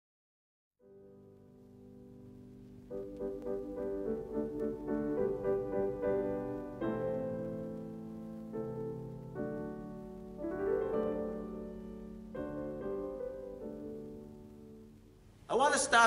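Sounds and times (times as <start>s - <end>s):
slow piano chords: 0.8s - 15.5s.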